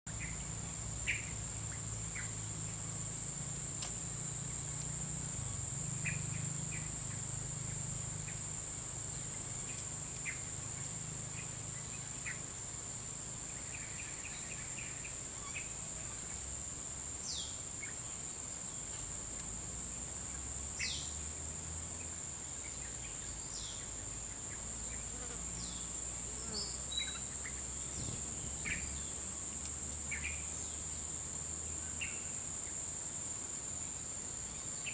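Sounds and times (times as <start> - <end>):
insects droning: 0.1 - 34.9.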